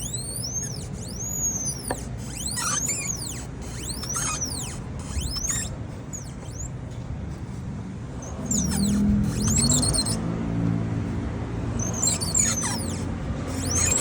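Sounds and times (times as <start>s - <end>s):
scooter wheel squeaking: 0.0s - 14.0s.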